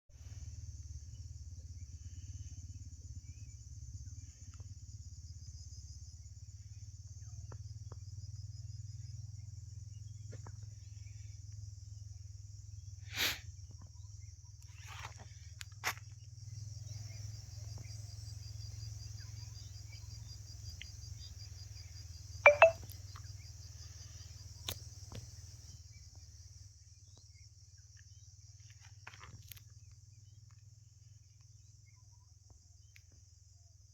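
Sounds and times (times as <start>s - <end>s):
insect chorus: 0.2s - 33.9s.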